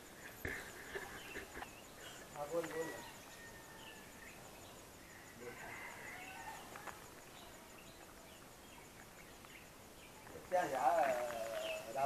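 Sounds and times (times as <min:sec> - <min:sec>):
faint bird calls: 0:00.0 - 0:12.0.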